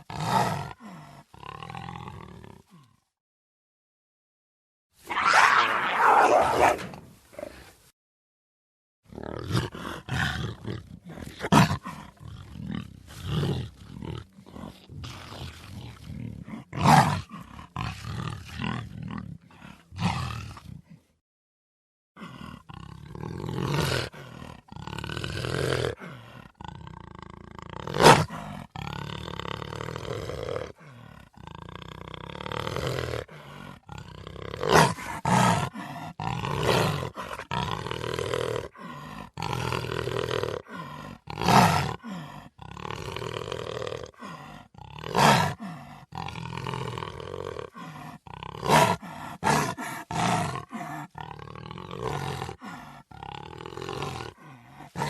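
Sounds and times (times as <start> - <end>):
big cat roaring: 0.0 - 3.0, 5.1 - 7.7, 9.1 - 21.0, 22.2 - 55.0.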